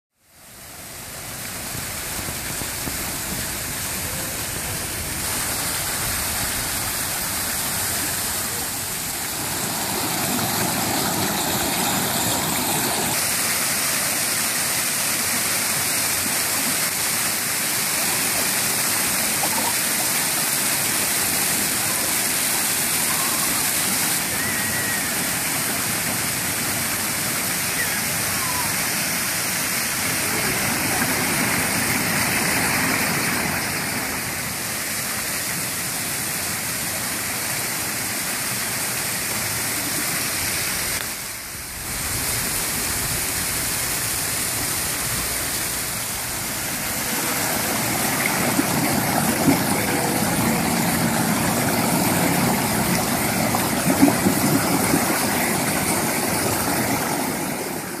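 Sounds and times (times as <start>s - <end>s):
fountain water splashing: 0.1s - 58.0s.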